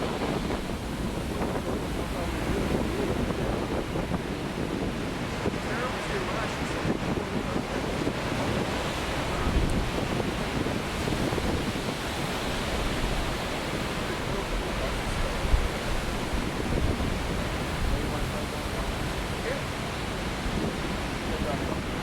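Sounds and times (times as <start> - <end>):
storm waves breaking: 0.0 - 22.0
wind noise on microphone: 0.0 - 22.0.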